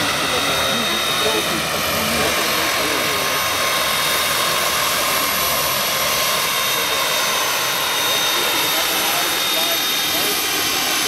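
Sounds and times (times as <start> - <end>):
helicopter rotor and engine noise: 0.0 - 11.0.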